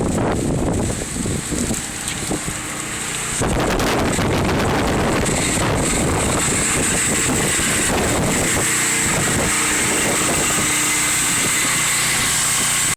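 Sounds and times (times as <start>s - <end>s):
engine-like drone: 0.0s - 12.9s
strong wind buffeting microphone: 0.0s - 12.9s.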